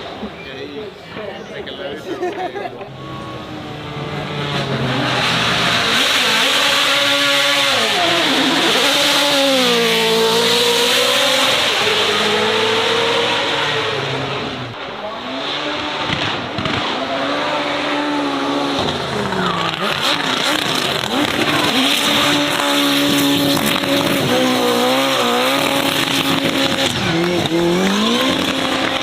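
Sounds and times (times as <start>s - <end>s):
racing car engine revving: 2.8s - 29.0s.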